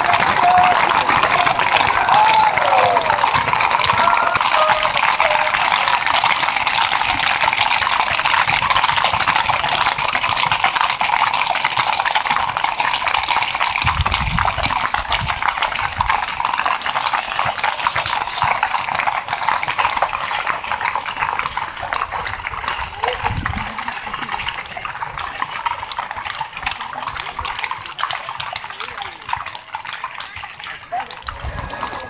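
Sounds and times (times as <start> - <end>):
horse hooves clattering on pavement: 0.0 - 32.0.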